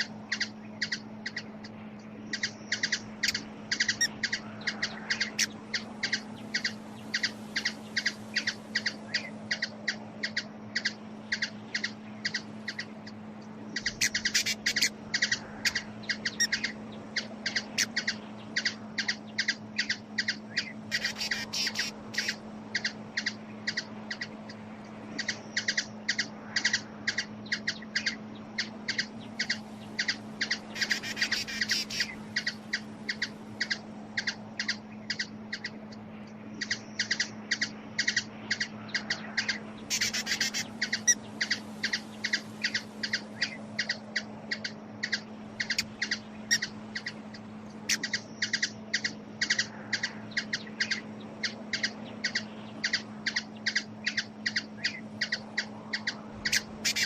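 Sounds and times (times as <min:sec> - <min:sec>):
bird chip calls: 0:00.0 - 0:57.0
bird twittering: 0:00.0 - 0:57.0
steady low hum: 0:00.0 - 0:57.0.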